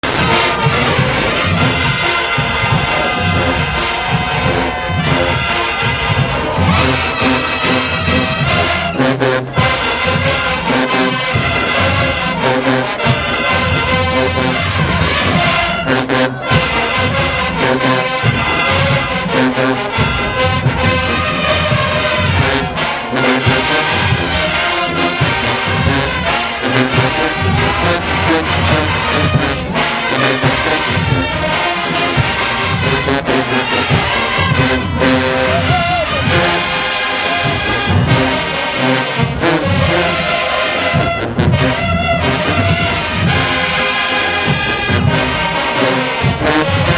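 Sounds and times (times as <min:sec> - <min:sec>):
drums pulsing: 0:00.0 - 0:46.9
marching band brass playing: 0:00.0 - 0:46.9
pounding low beat: 0:00.0 - 0:46.9.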